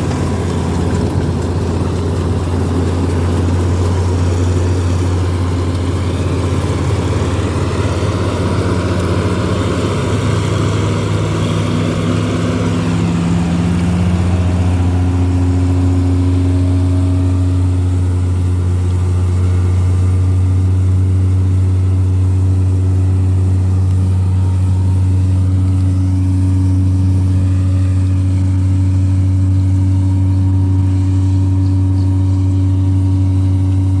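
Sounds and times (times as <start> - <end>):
combine harvester engine humming: 0.0 - 34.0
rough noisy layer: 0.0 - 34.0.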